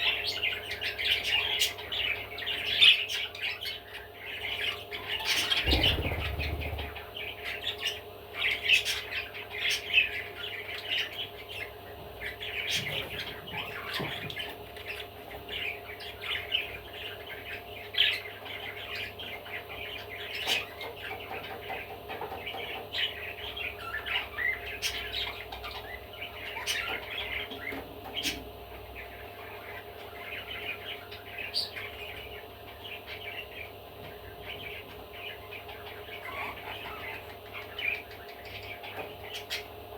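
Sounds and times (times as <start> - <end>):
budgerigar chattering and warbling: 0.0 - 33.8, 34.4 - 39.8
faint steady hum: 0.0 - 39.9.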